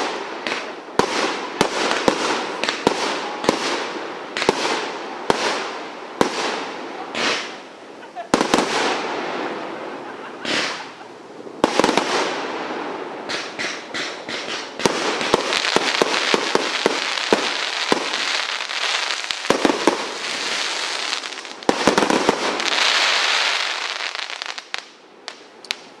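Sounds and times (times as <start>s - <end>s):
firework shots and bursts: 0.0s - 7.7s, 8.3s - 9.6s, 10.4s - 11.0s, 11.6s - 25.8s.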